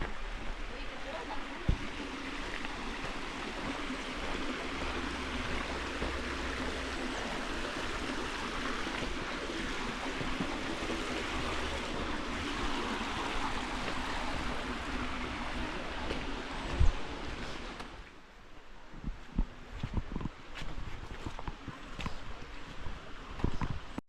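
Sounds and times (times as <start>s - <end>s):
creek water running over rocks: 0.0s - 18.3s, 19.4s - 24.0s.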